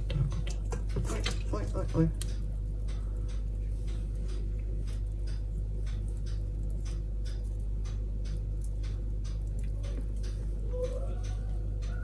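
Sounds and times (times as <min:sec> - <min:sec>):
regular ticking: 0:00.0 - 0:12.0
steady low hum: 0:00.0 - 0:12.0.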